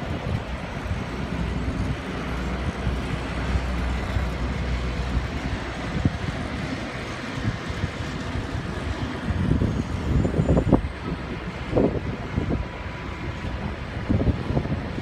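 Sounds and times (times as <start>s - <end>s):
low airport rumble: 0.0s - 15.0s
wind buffeting microphone: 0.0s - 15.0s.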